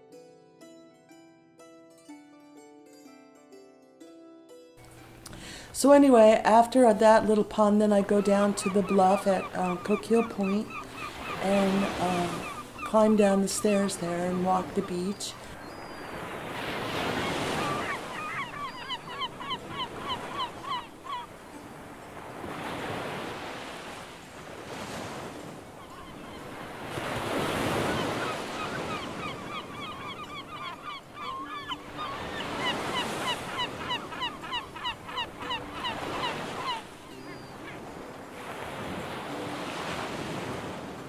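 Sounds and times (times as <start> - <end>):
gulls calling: 6.2 - 24.1, 24.7 - 41.0.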